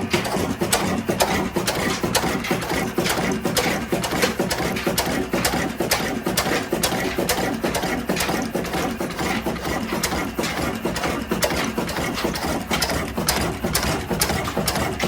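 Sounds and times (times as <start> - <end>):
diesel engine knocking steadily: 0.0 - 15.0.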